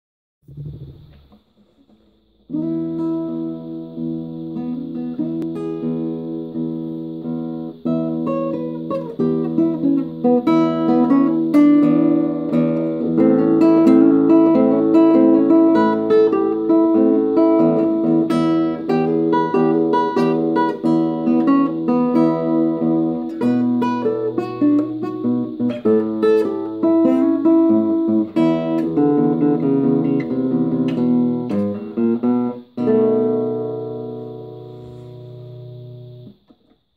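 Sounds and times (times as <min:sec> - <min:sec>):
classical guitar blues fingerstyle: 0:00.5 - 0:36.8.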